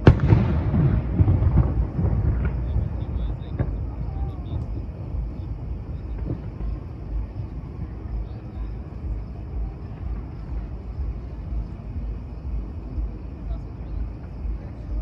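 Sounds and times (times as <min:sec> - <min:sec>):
distant fireworks bursts: 0:00.0 - 0:15.0
faint firework crack: 0:00.0 - 0:15.0.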